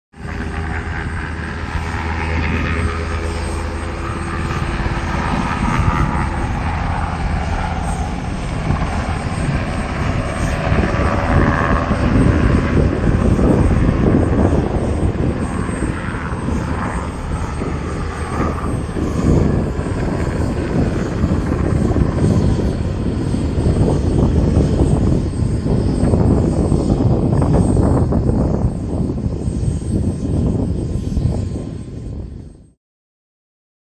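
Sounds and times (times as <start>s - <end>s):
helicopter rotor rumble: 0.1s - 32.8s
faint turbine engine whine: 0.2s - 32.8s.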